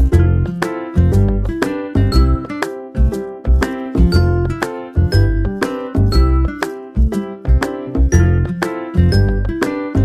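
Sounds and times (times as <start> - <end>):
bright keyboard tune: 0.0 - 10.0.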